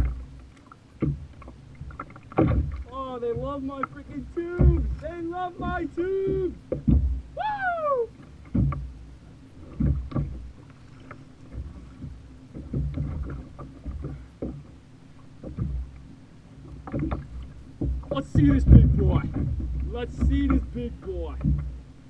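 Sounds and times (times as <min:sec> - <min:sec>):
water slapping against hull: 0:00.0 - 0:22.0.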